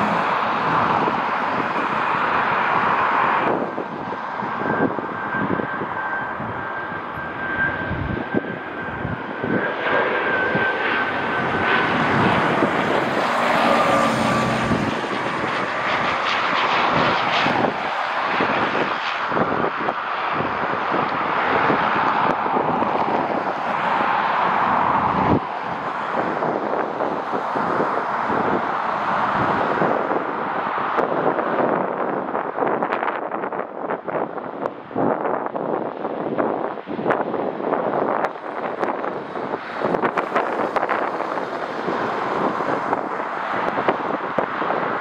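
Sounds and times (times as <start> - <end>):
plane engines passing: 0.0 - 45.0.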